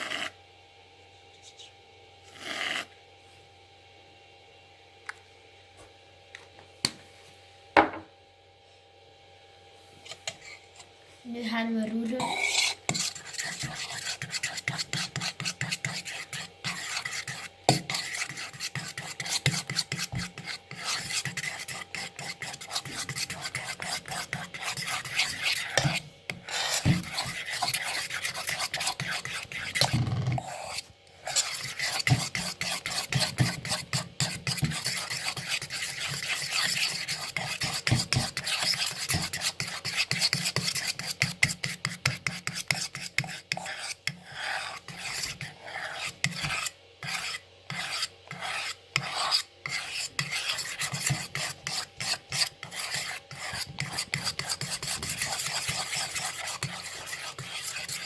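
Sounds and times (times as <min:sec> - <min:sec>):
utensil scraping a bowl: 0:00.0 - 0:00.4, 0:02.3 - 0:02.9, 0:10.0 - 0:10.9, 0:11.8 - 0:58.0.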